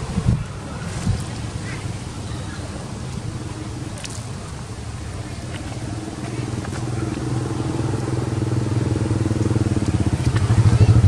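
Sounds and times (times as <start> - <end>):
engine fast-pulsing hum: 1.4 - 11.0.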